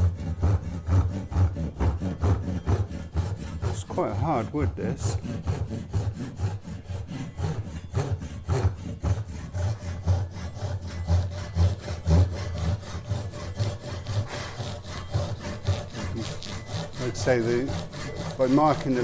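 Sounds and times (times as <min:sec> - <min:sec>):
hand saw cutting wood: 0:00.0 - 0:19.0.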